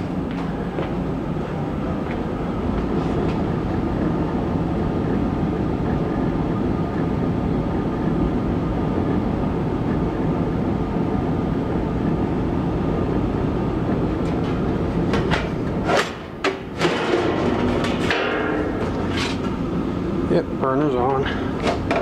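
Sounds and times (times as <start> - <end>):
furnace blower rumble: 0.0 - 22.0.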